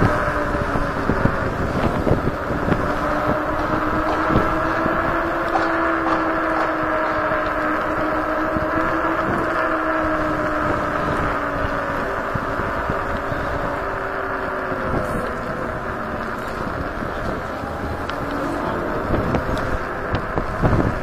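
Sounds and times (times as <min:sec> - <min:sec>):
electric scooter motor whine: 0:00.0 - 0:21.0
wind buffeting microphone: 0:00.0 - 0:21.0.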